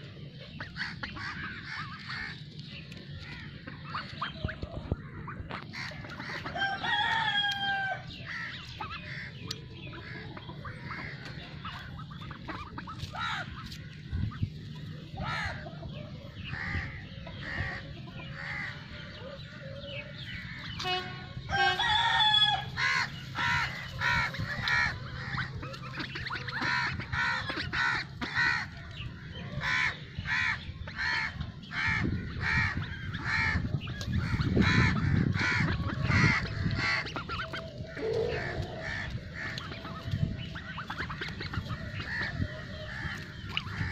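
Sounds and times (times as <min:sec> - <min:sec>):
poultry calling: 0:00.0 - 0:43.9.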